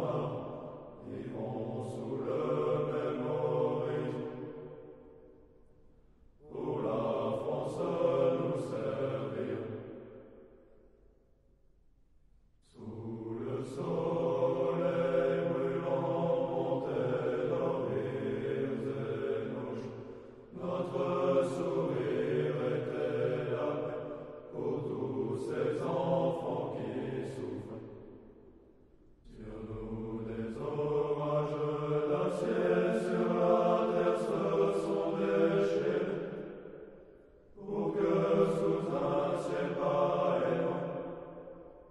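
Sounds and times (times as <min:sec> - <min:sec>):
choir of low voices singing: 0:00.0 - 0:05.5, 0:06.4 - 0:10.8, 0:12.6 - 0:41.9.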